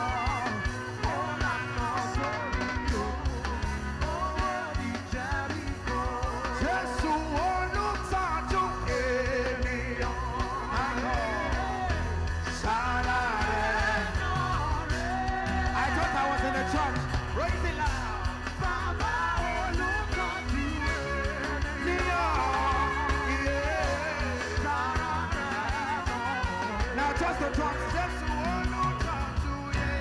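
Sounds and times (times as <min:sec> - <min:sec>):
band with drums and bass: 0:00.0 - 0:30.0
voices singing: 0:00.0 - 0:30.0.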